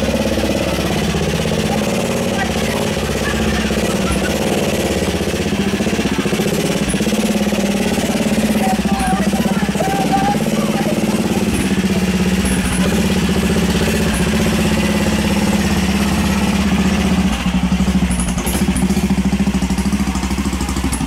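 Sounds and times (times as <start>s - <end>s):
lawnmower engine idling: 0.0s - 21.0s.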